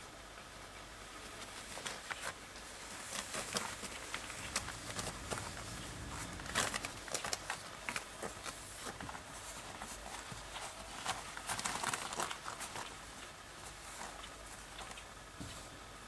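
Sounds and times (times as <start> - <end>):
puppies moving on a blanket: 1.1 - 16.0.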